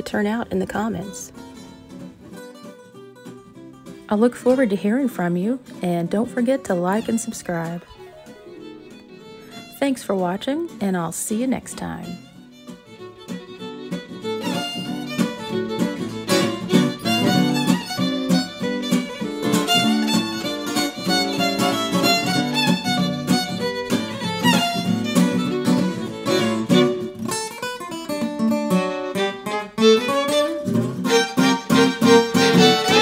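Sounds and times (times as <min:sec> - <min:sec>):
fiddle tune: 0:00.0 - 0:33.0
plucked guitar accompaniment: 0:00.0 - 0:33.0.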